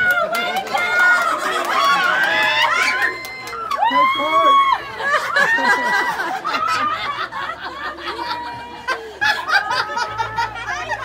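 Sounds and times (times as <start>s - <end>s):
people laughing: 0.2s - 11.0s.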